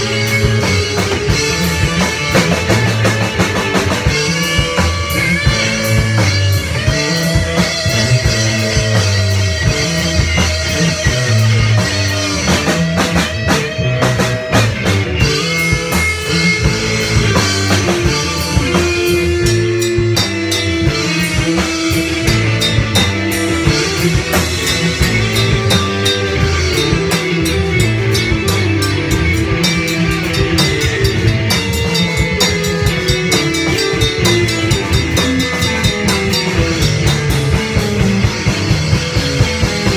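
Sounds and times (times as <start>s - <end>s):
drum kit with cymbals: 0.0s - 39.9s
electric guitars: 0.0s - 39.9s.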